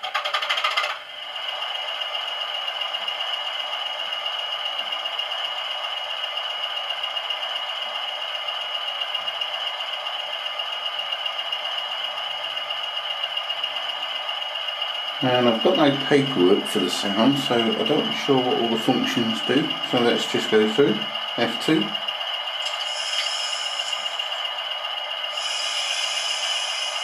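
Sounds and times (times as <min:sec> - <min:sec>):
model locomotive diesel engine sound: 0:00.0 - 0:27.0.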